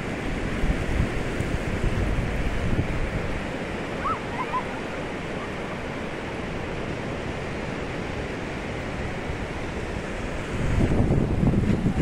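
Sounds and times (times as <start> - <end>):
surf washing over sand: 0.0 - 12.0.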